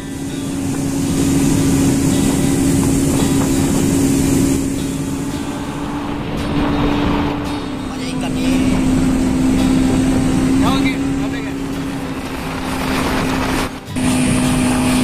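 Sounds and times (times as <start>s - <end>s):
motorboat engine: 0.0s - 15.0s
water rushing off hull: 0.0s - 15.0s.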